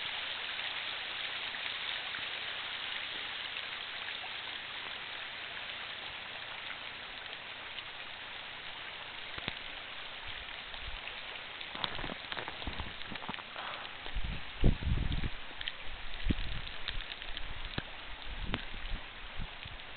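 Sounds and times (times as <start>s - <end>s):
steady outdoor hiss: 0.0s - 19.9s.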